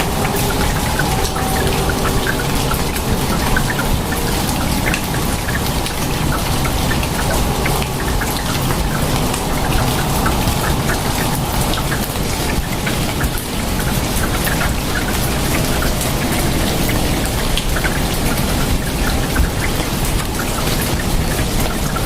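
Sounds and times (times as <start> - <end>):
raindrops ticking on surfaces: 0.0 - 22.0
steady rain falling: 0.0 - 22.0.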